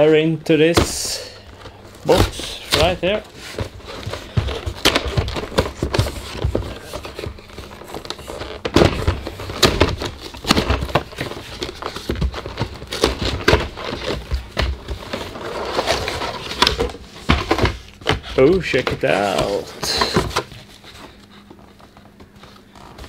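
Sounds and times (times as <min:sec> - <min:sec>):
plastic and cardboard crinkling: 0:00.7 - 0:23.0.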